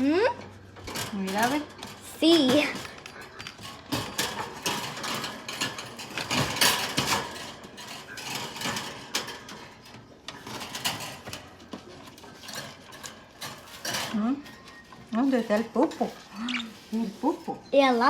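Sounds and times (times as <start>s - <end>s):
birdcage parts clicking and rattling: 0.4s - 18.0s.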